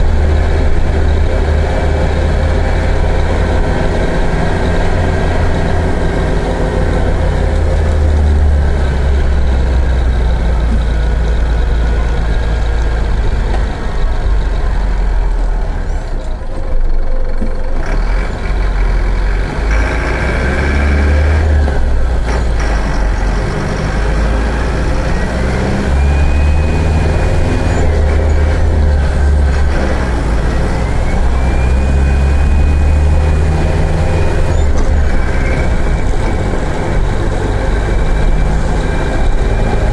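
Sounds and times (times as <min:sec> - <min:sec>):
bus engine accelerating: 0:00.0 - 0:39.9.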